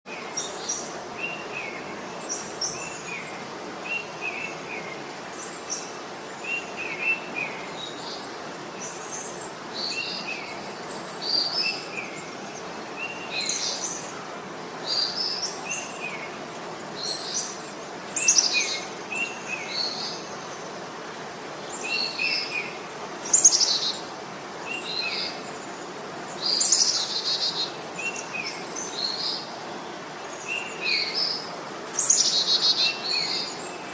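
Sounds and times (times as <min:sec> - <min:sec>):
birds chirping and trilling: 0:00.2 - 0:14.2, 0:14.8 - 0:20.8, 0:21.6 - 0:33.9.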